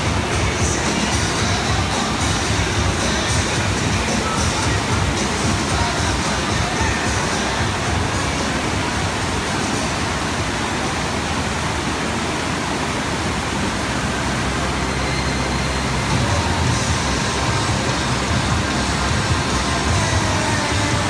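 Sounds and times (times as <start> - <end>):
low hum: 0.0 - 21.0
rushing water: 0.0 - 21.0.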